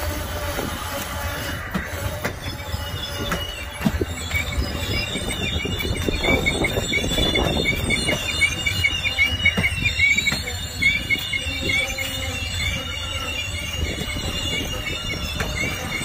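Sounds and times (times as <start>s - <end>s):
train low rumble: 0.0s - 16.0s
wheels squealing against rail: 0.0s - 16.0s.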